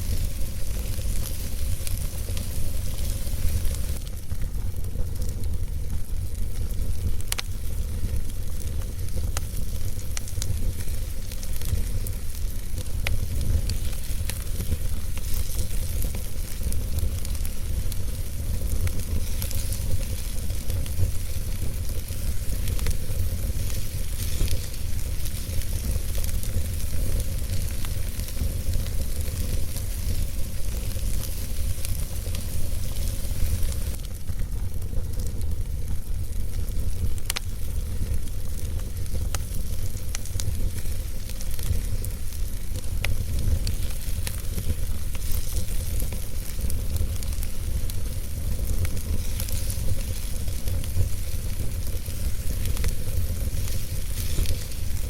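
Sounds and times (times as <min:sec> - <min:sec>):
logs crackling and popping: 0:00.0 - 0:55.0
wood fire rumbling: 0:00.0 - 0:55.0.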